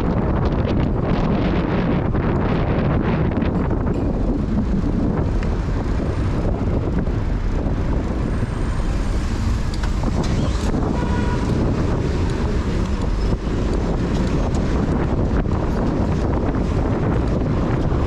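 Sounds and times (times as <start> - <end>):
city street traffic: 0.0 - 18.0
wind rushing over microphone: 0.0 - 18.0.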